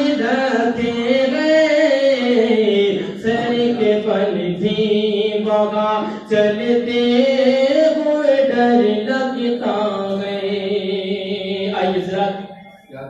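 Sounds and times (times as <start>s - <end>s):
man singing unaccompanied: 0.0s - 12.6s.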